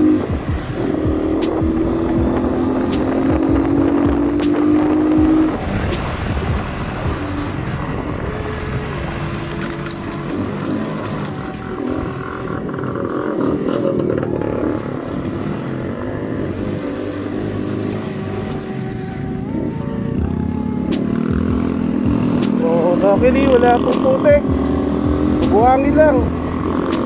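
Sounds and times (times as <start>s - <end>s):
motorcycle engine running: 0.0s - 27.0s
wind and road rush: 0.0s - 27.0s.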